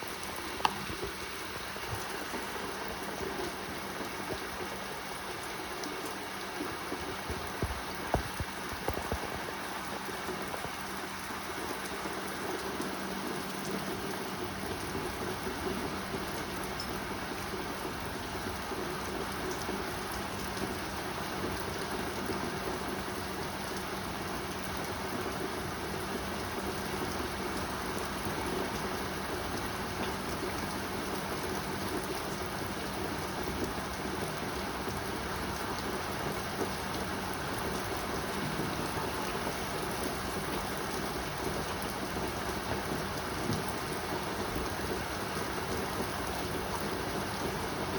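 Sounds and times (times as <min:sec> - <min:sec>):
rain pouring: 0:00.0 - 0:47.9.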